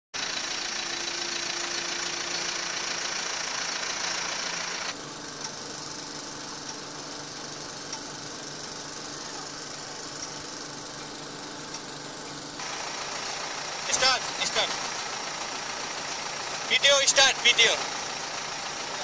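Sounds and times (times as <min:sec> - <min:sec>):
diesel tractor engine running: 0:00.2 - 0:19.0.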